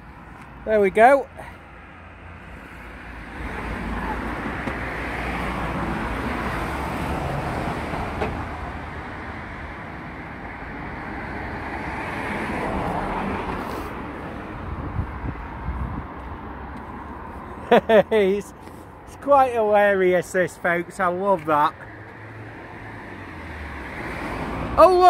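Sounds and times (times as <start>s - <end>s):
road traffic hiss: 0.0s - 15.0s, 16.7s - 25.0s.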